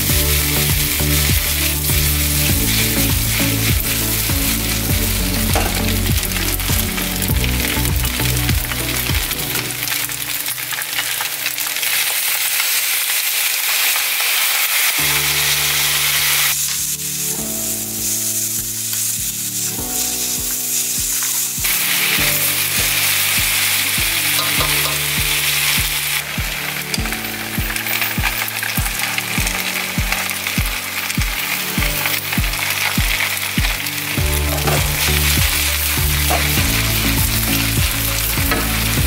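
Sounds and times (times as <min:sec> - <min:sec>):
noodles sizzling in oil: 0:00.0 - 0:39.0.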